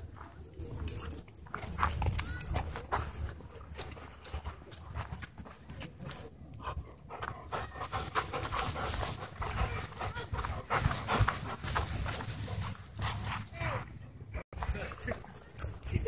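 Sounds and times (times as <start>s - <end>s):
dog panting: 0.6s - 13.9s.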